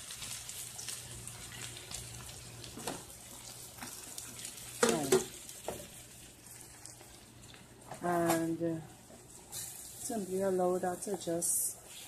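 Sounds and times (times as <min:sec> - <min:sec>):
milk sizzling in a frying pan: 0:00.0 - 0:12.0.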